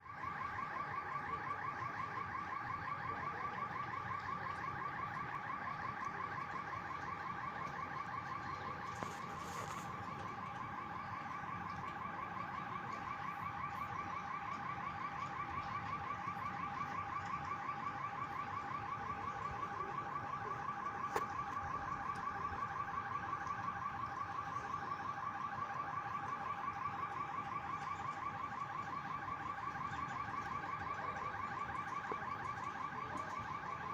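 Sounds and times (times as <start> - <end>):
pulsing electronic alarm: 0.0 - 33.9.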